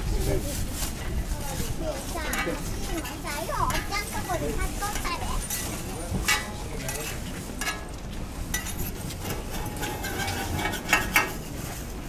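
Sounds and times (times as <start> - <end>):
metal spatula scraping griddle: 2.1 - 11.9.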